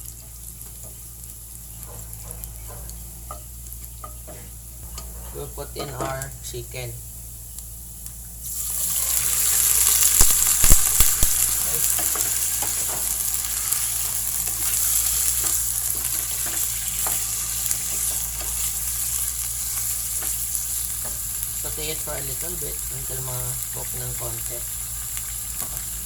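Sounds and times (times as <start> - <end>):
chicken sizzling in hot oil: 0.0 - 4.8, 5.4 - 26.0.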